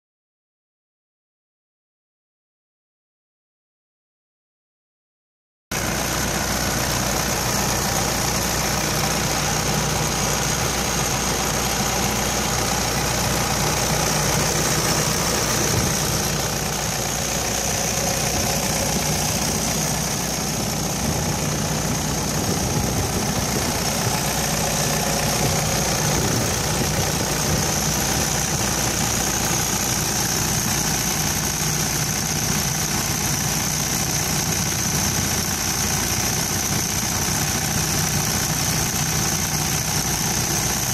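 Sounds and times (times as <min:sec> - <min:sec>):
diesel engine idling: 0:05.7 - 0:40.9.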